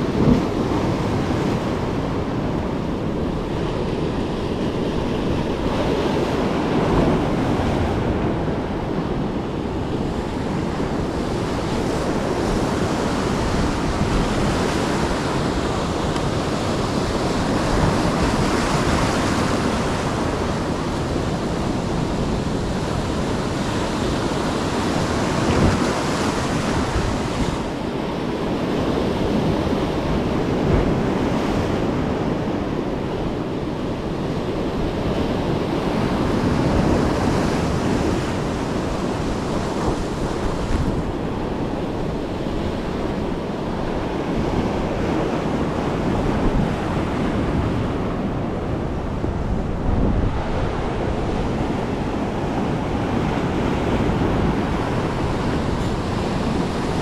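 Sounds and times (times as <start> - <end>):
ocean surf breaking on beach: 0.0 - 57.0
wind buffeting microphone: 0.0 - 57.0.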